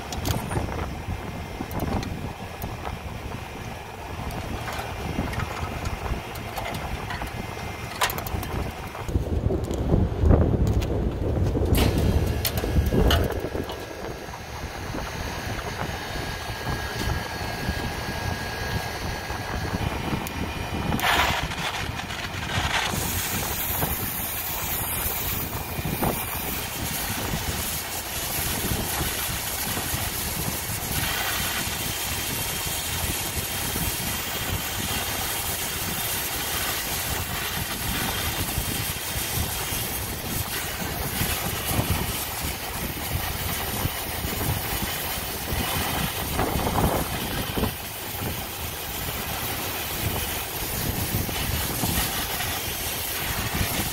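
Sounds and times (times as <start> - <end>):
torch flame roaring: 0.0 - 53.9.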